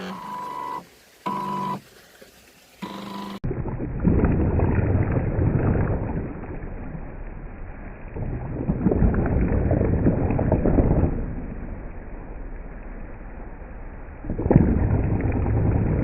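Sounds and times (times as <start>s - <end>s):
rushing water: 0.0s - 13.5s.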